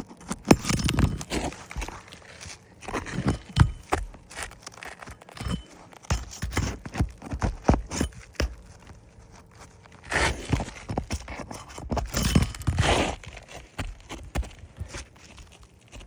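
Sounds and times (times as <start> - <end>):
scraping on roof shingle: 0.0 - 16.0.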